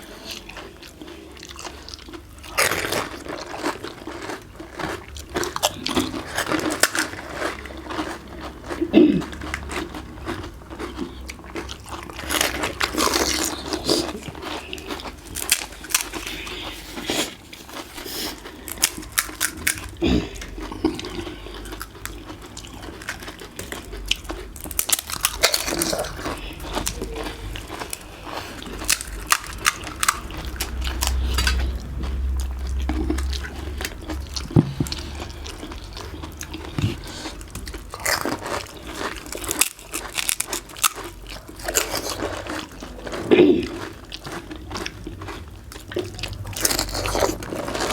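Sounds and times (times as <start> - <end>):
crisp shells crunching when chewed: 0.0 - 47.9.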